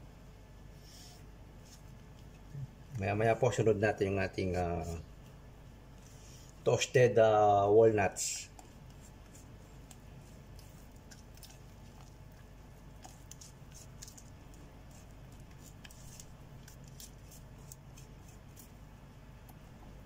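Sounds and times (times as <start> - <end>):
faint low hum: 0.0 - 20.0
batter squishing: 1.0 - 20.0.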